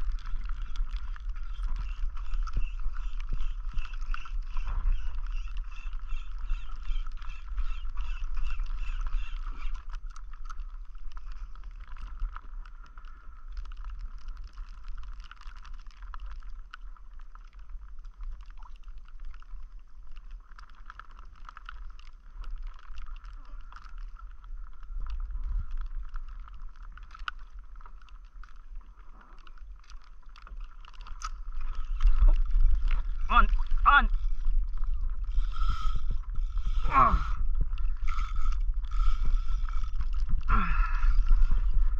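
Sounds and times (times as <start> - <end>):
water lapping against hull: 0.0 - 41.9
light clicks and ticks: 3.2 - 36.9.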